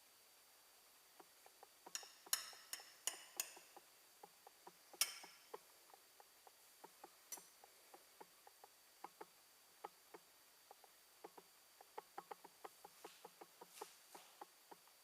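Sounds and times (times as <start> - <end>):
soft small ticks: 1.1 - 15.0.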